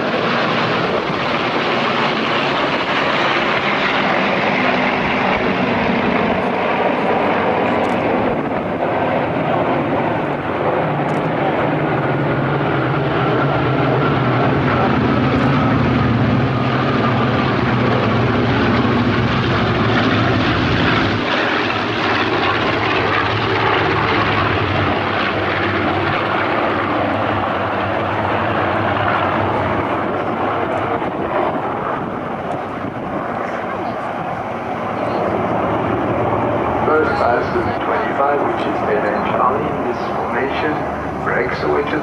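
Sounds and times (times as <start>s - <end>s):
propeller aircraft engines droning: 0.0s - 42.0s.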